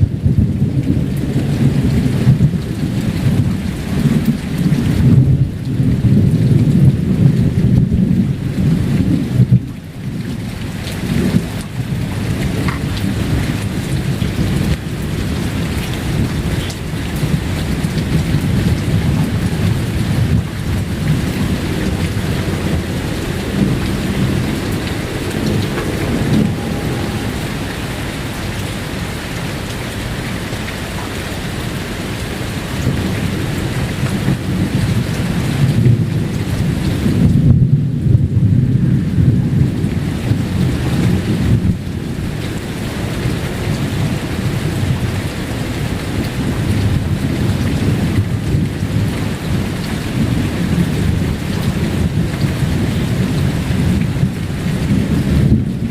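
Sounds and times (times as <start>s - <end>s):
low rumble of thunder: 0.0s - 55.9s
steady rain: 0.0s - 55.9s.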